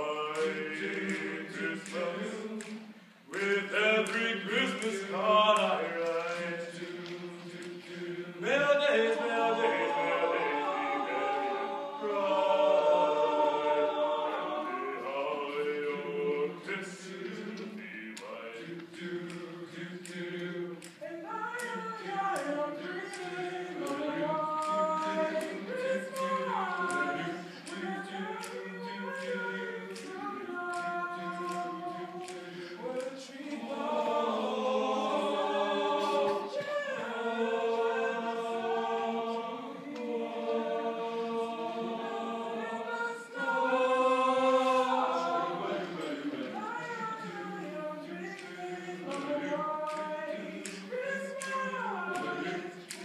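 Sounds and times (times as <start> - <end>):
male choir singing a cappella: 0.0 - 53.0.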